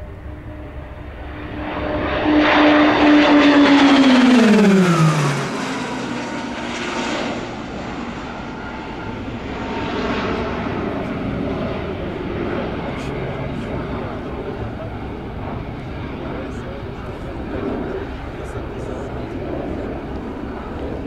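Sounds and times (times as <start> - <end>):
faint engine sound: 0.0 - 21.0
propeller aircraft passing: 0.0 - 21.0.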